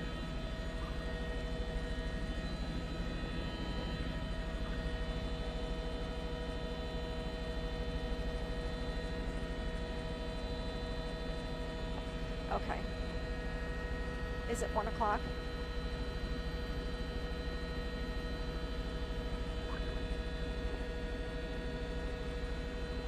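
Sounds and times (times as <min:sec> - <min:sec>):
constant humming tones: 0:00.0 - 0:23.0
helicopter rotor and engine drone: 0:00.0 - 0:23.0.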